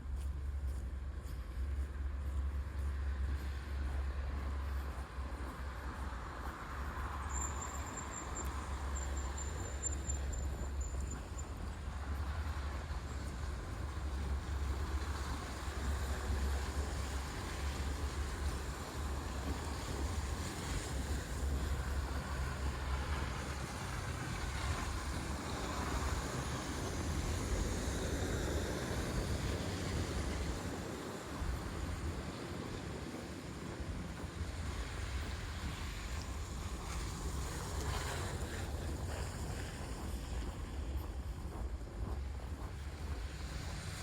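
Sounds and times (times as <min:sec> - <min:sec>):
wind rumbling on microphone: 0:00.0 - 0:44.0
passing traffic: 0:02.8 - 0:44.0.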